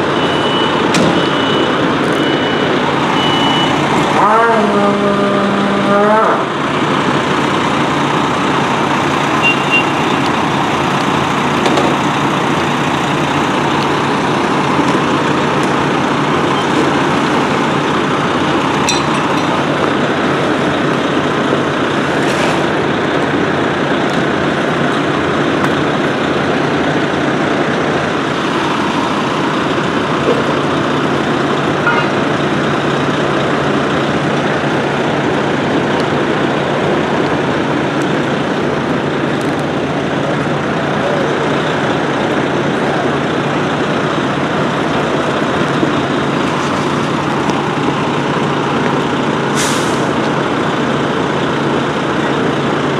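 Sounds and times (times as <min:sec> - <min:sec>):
heavy engine humming: 0:00.0 - 0:52.9.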